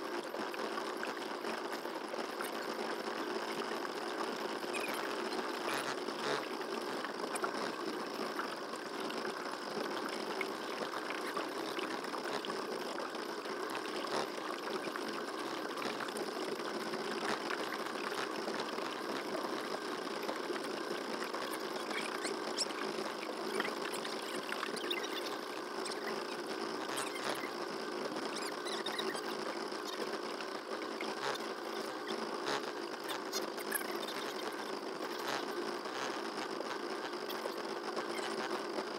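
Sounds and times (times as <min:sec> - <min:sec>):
small boat motor buzzing: 0:04.2 - 0:38.8.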